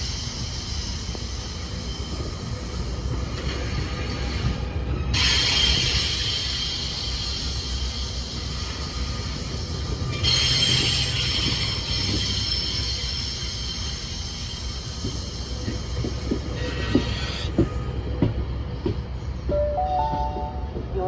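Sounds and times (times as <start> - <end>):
train wheels rumbling on rail: 0.0 - 21.0
metallic squeal and hiss: 0.1 - 18.0.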